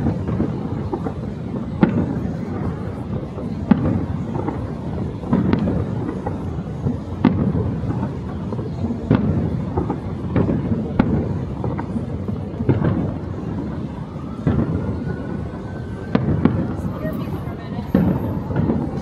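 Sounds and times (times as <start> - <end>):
fireworks sharp bangs: 0.0 - 19.0.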